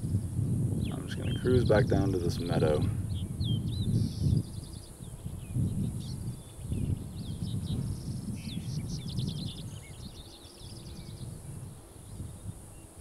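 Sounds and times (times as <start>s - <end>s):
small birds chirping: 0.0s - 13.0s
wind on microphone: 0.0s - 13.0s.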